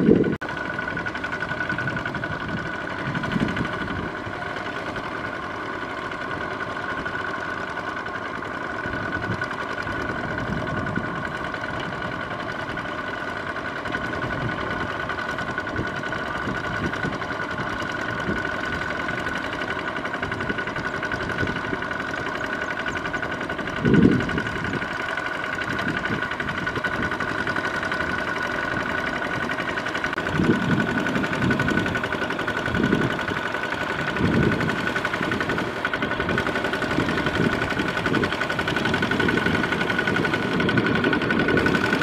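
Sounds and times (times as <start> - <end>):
diesel tractor engine chugging: 0.0 - 42.0.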